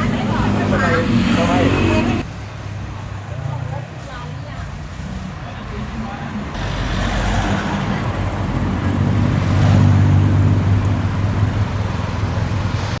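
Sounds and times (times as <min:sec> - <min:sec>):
street traffic noise: 0:00.0 - 0:13.0
vehicle engine humming: 0:00.0 - 0:13.0.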